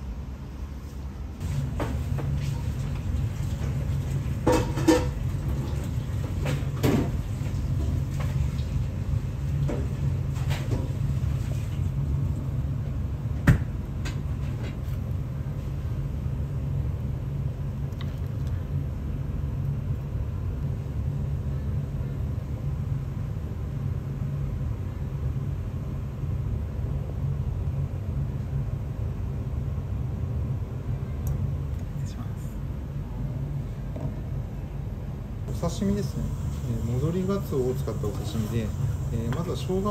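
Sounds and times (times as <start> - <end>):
low background rumble: 0.0 - 39.9.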